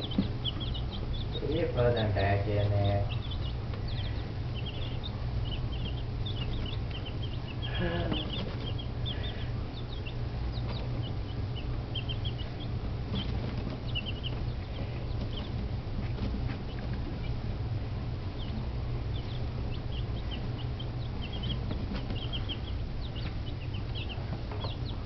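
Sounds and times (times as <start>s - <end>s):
chicks peeping: 0.0s - 25.0s
steady low hum: 0.0s - 25.0s.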